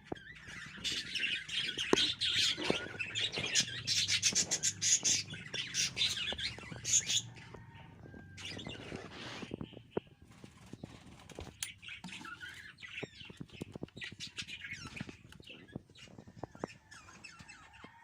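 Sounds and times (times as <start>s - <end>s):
budgerigar chicks chattering: 0.0s - 10.2s, 11.6s - 18.0s.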